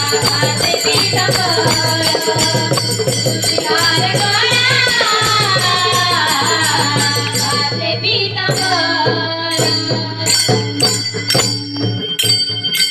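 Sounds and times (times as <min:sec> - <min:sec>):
group singing: 0:00.0 - 0:10.6
jingling percussion: 0:00.0 - 0:12.9.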